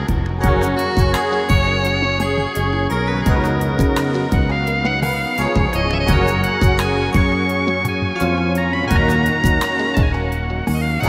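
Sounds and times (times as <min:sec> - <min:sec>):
instrumental pop music with drums: 0:00.0 - 0:11.0.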